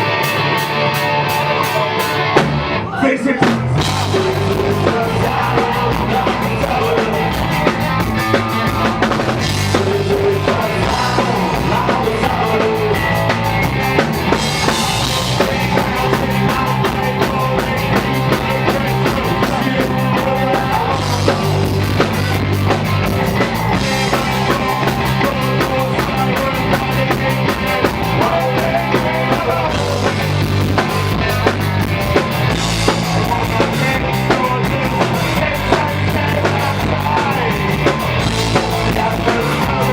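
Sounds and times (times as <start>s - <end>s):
bass guitar: 0.0s - 39.9s
driving drum kit: 0.0s - 39.9s
punk rock band playing live: 0.0s - 39.9s.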